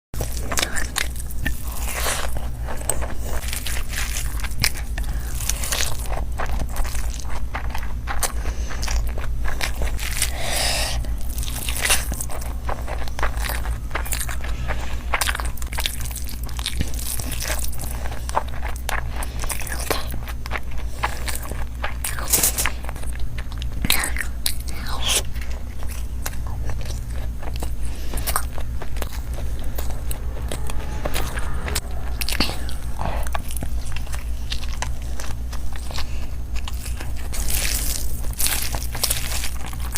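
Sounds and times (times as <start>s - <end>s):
chewing and biting food: 0.2s - 39.9s
steady low hum: 0.2s - 39.9s.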